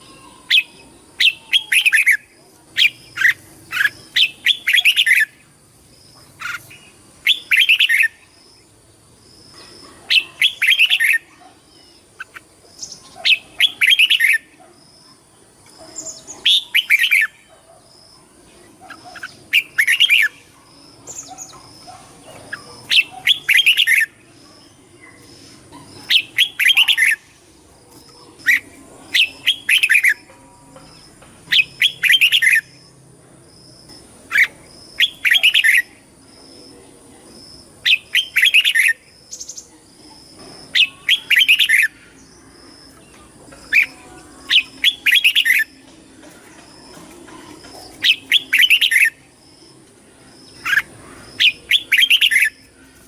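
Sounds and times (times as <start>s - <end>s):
bird singing warbled phrases: 0.0s - 33.0s, 33.9s - 53.0s.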